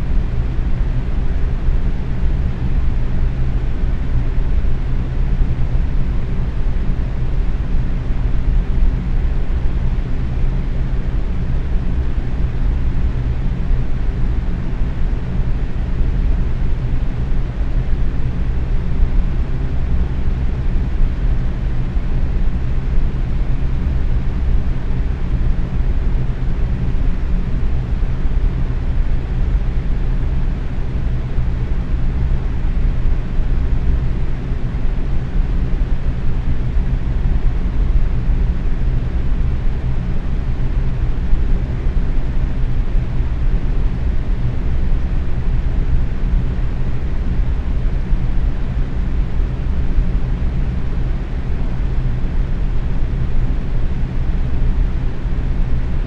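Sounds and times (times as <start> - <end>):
box fan running: 0.0 - 56.0.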